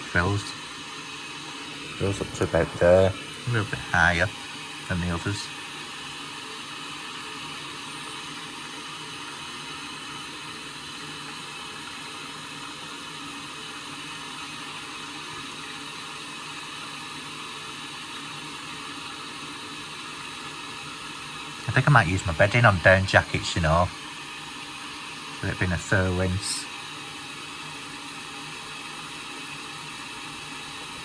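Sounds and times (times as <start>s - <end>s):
water hissing into washing machine: 4.3s - 22.7s, 23.6s - 31.0s.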